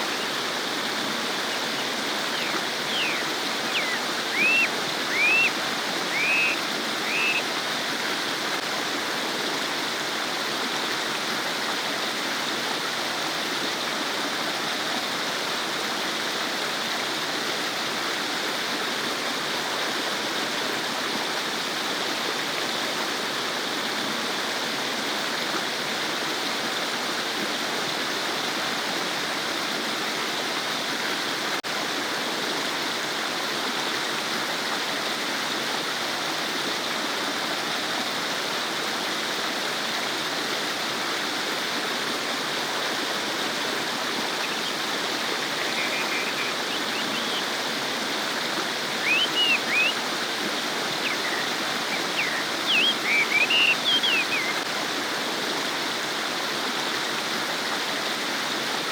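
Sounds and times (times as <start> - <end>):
stream babbling over stones: 0.0 - 58.9.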